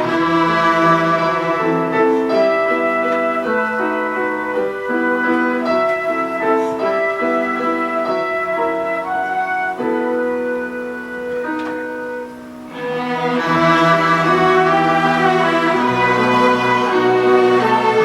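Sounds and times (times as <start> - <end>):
cellos playing held notes: 0.0 - 18.0
piano: 0.0 - 18.0
woodwind: 0.0 - 18.0.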